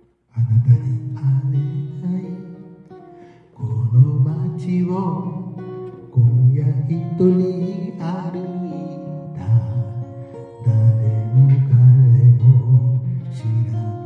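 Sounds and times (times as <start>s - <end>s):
acoustic guitar slow chords: 0.0s - 14.0s.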